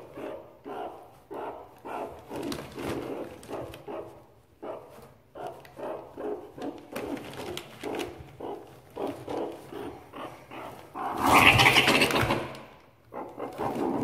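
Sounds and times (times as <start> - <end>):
meerkats barking: 0.0 - 14.0.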